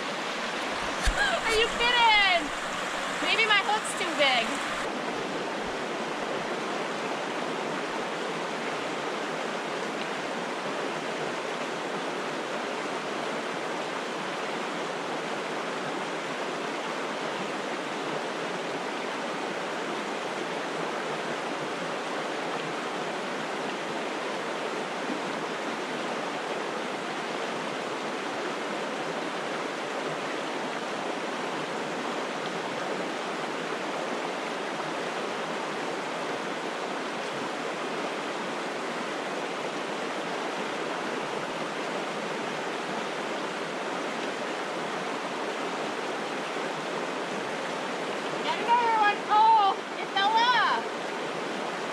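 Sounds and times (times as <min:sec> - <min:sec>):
brook water rushing: 0:00.0 - 0:51.9.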